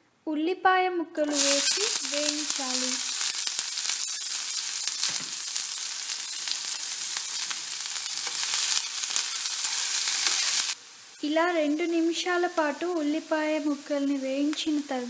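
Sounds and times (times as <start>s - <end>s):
onions sizzling in hot oil: 1.2s - 15.0s.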